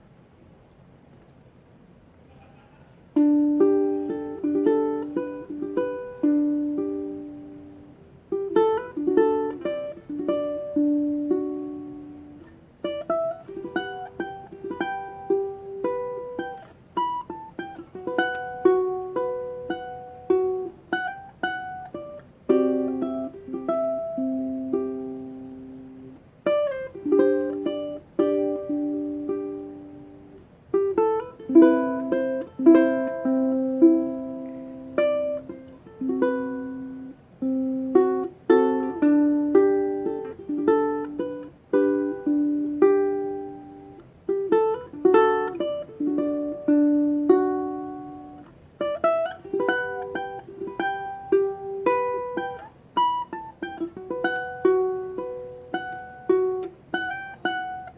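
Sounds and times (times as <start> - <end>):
ukulele fingerpicking melody: 3.1 - 57.9.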